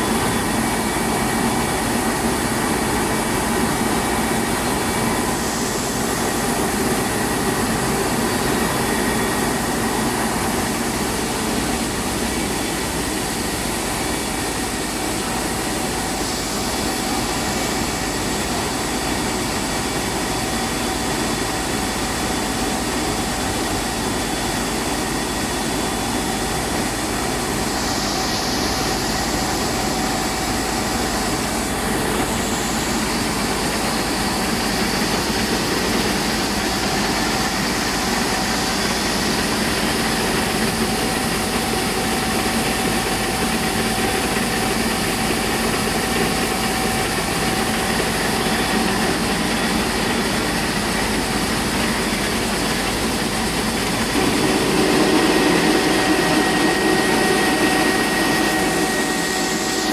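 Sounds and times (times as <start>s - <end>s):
mill machinery rush and whir: 0.0s - 59.9s.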